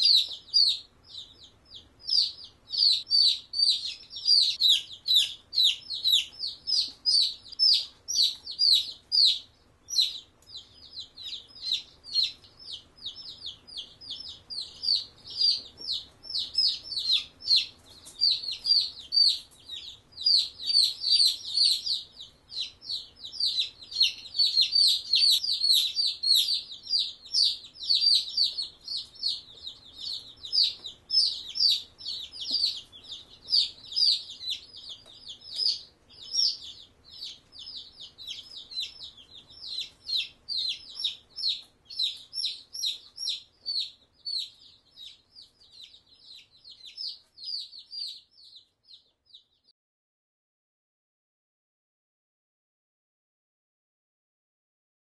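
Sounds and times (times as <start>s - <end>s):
chicks peeping: 0.0s - 49.7s.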